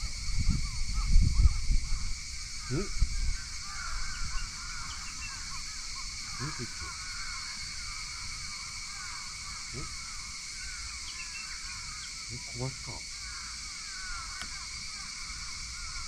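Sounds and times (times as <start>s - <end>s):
lower bird call: 0.0s - 16.0s
steady high-pitched hiss: 0.0s - 16.0s
bird chirps: 2.6s - 16.0s.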